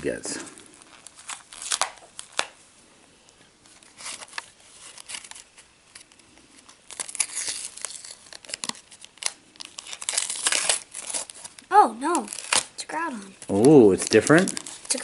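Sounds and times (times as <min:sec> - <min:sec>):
plastic wrapper crinkling: 0:00.4 - 0:02.6, 0:03.6 - 0:15.0.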